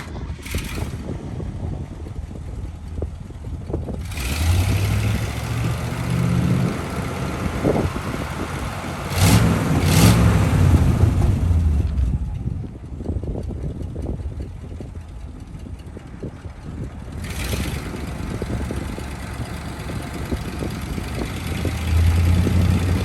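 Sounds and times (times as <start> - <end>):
truck engine idling and revving: 0.0 - 23.0.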